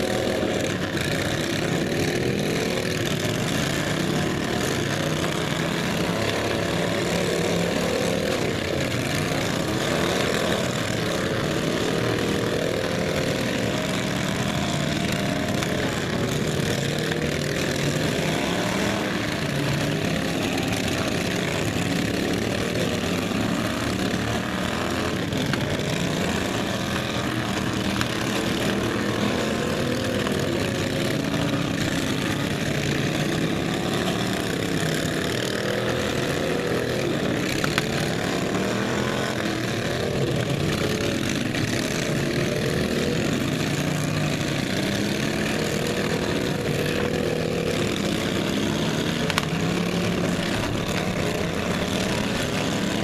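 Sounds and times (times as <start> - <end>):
lawn mower engines droning: 0.0 - 53.0.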